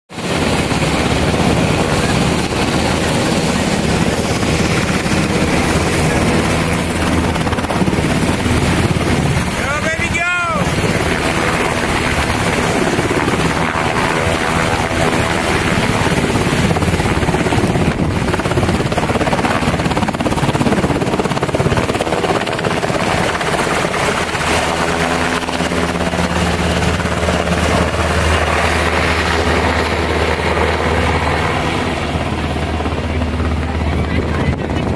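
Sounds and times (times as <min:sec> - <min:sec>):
helicopter rotor and engines: 0:00.1 - 0:34.9.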